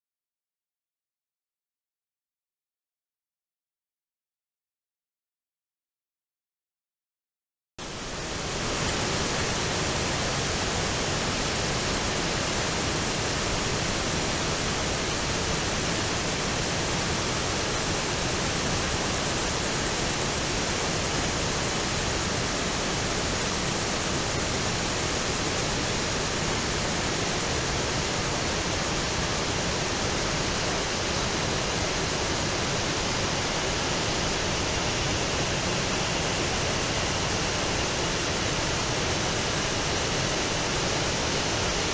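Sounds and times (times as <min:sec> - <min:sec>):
whitewater rushing over rocks: 0:08.0 - 0:41.9.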